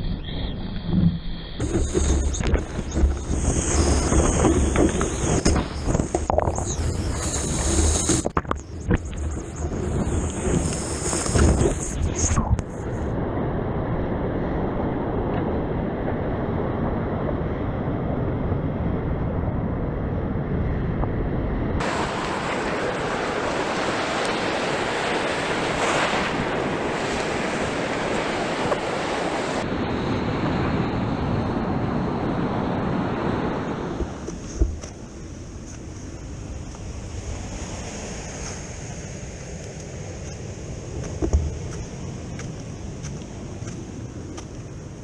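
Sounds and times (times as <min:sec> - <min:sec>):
wind on microphone: 0:00.0 - 0:45.0
ocean surf: 0:01.6 - 0:45.0.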